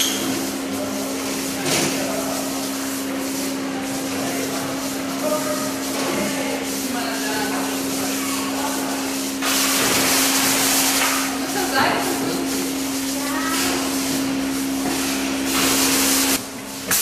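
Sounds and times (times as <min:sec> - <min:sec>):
vacuum system hum: 0:00.0 - 0:17.0.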